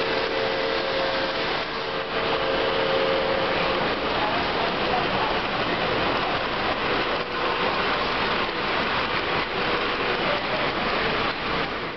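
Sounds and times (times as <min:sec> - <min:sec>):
toy train wheels rumbling on track: 0:00.0 - 0:11.9.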